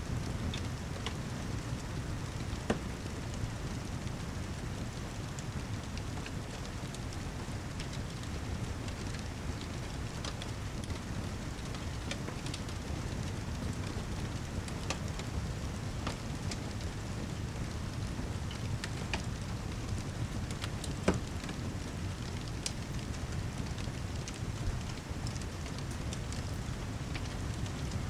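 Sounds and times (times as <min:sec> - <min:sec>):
fire crackling: 0:00.0 - 0:28.0
heavy rain: 0:00.0 - 0:28.0.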